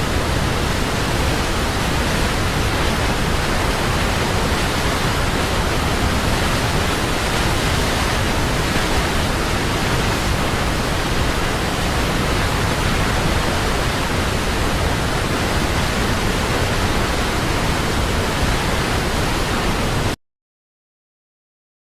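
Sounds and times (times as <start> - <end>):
waterfall rushing: 0.0 - 20.2.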